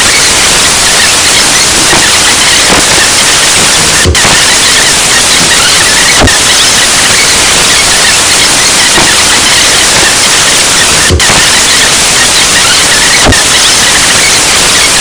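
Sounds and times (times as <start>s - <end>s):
loud static hiss: 0.0s - 15.0s.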